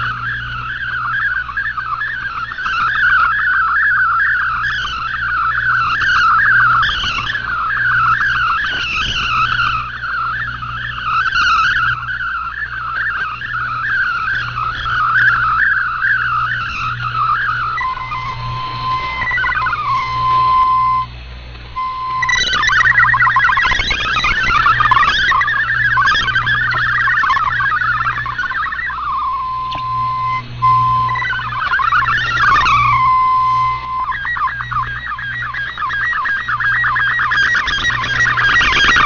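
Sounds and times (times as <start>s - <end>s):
low hum: 0.0s - 39.0s
steady radio tones: 0.0s - 39.0s
warbling digital radio signal: 0.0s - 39.0s.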